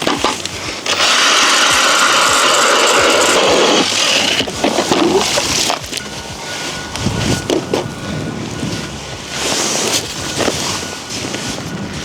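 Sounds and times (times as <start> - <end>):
ice auger grinding: 0.0 - 12.0.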